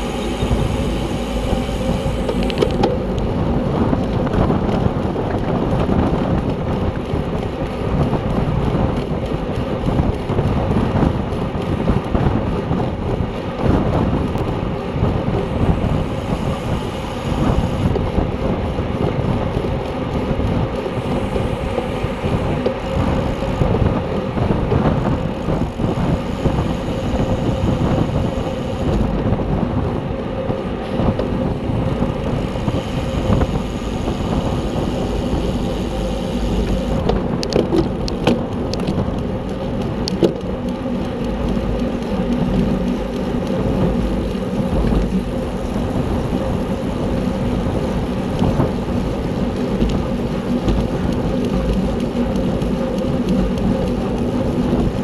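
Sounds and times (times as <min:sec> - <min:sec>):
tyre and road noise: 0:00.0 - 0:55.0
wind rumble on microphone: 0:00.0 - 0:55.0.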